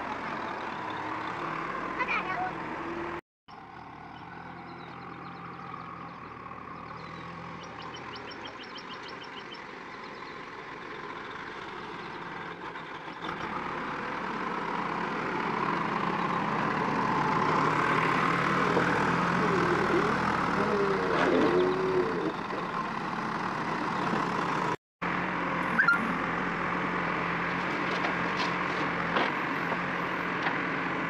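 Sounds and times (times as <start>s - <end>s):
diesel engine humming: 0.0s - 31.0s.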